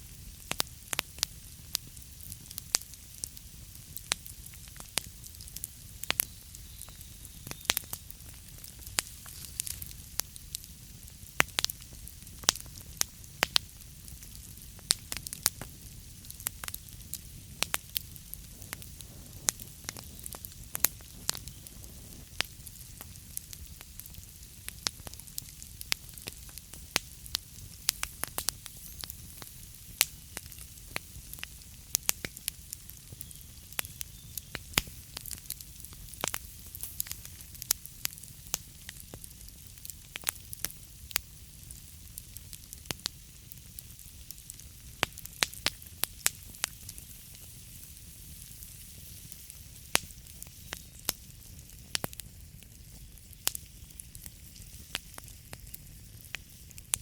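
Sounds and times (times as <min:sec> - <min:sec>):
fire low rumble and hiss: 0:00.0 - 0:57.0
wood fire crackling and popping: 0:00.0 - 0:57.0.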